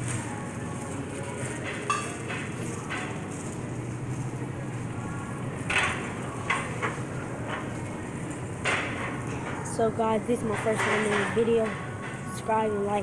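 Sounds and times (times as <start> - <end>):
shopping cart wheels rumbling: 0.0 - 13.0.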